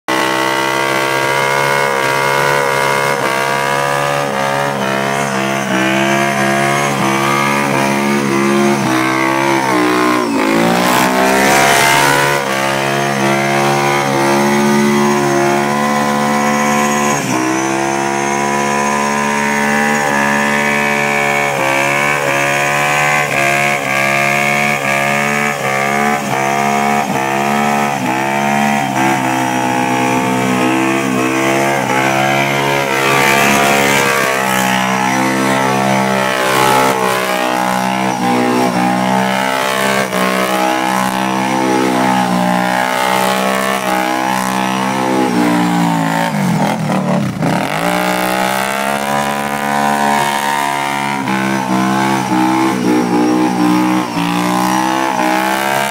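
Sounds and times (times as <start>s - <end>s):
atv engine revving: 0.0s - 55.9s
tires spinning on asphalt: 0.0s - 55.9s.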